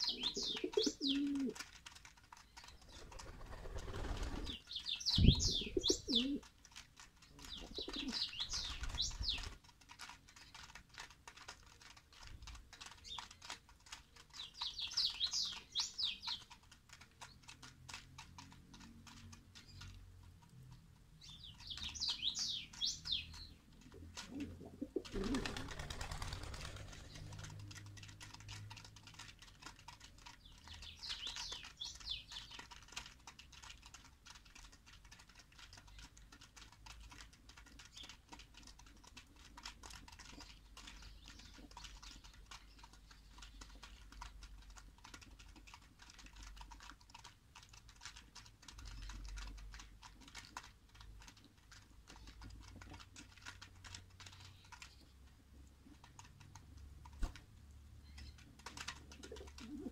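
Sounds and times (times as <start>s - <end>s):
pigeons pecking grain: 0.0s - 59.9s.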